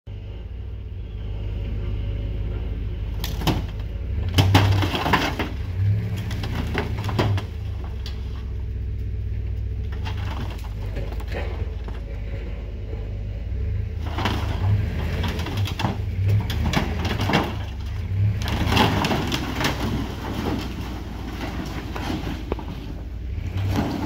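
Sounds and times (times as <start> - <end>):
pickup truck engine running: 0.1 - 24.0
metal fridge scraping and banging: 3.1 - 8.6, 9.8 - 24.0.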